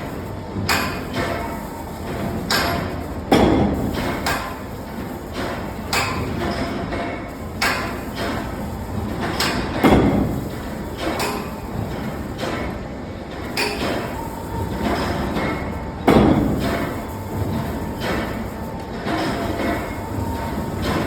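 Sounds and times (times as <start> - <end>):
machine running: 0.0 - 21.0.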